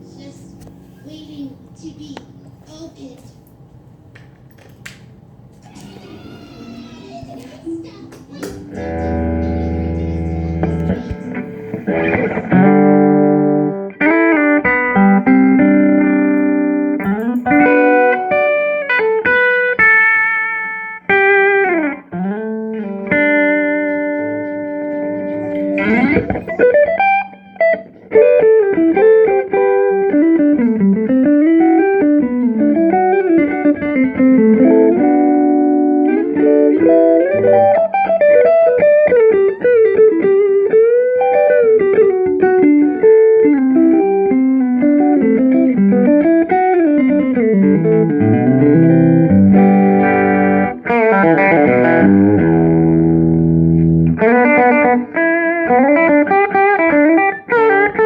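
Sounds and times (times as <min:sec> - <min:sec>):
clean electric guitar: 0:00.0 - 0:58.0.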